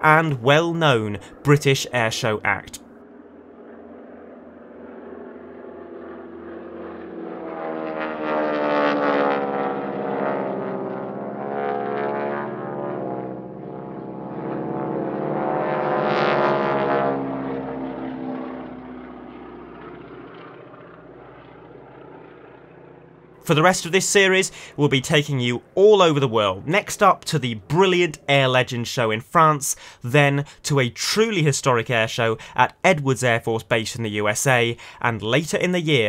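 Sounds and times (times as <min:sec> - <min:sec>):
biplane engines flying past: 0:00.0 - 0:36.0.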